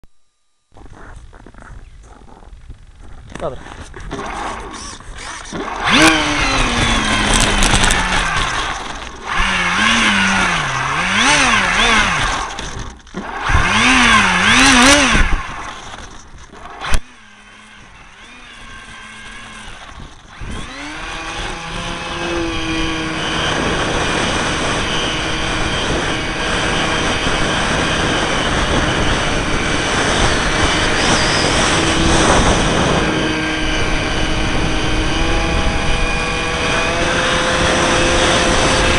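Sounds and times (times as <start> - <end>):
model aircraft motor revving: 3.6 - 38.9.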